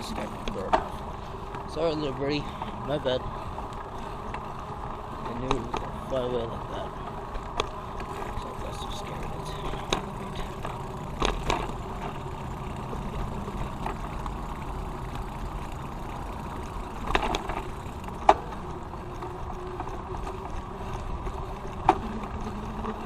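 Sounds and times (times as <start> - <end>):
bicycle tyres rolling on pavement: 0.0 - 23.0
bike clicks and rattles: 0.0 - 23.0.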